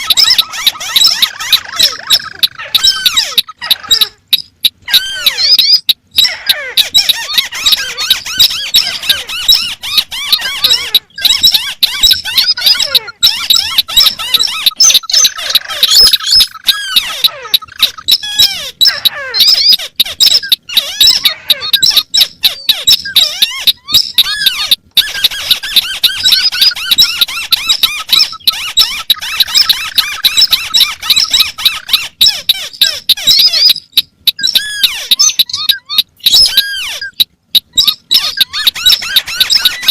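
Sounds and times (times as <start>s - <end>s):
crakes squeaky chattering: 0.0s - 39.9s
falling bird trill: 0.0s - 39.9s.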